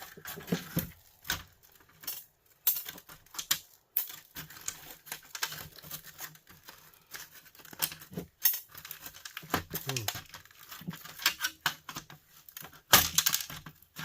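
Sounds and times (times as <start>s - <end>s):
small screws and parts clinking: 0.0s - 14.0s.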